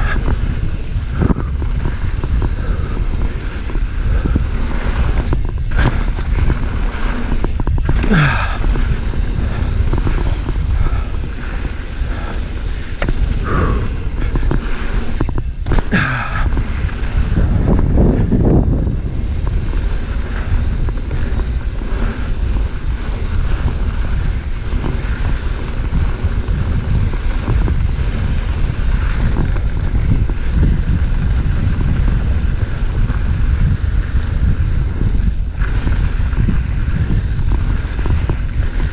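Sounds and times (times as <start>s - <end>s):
mountain bike rattling on dirt trail: 0.0s - 38.9s
wind buffeting microphone: 0.0s - 38.9s.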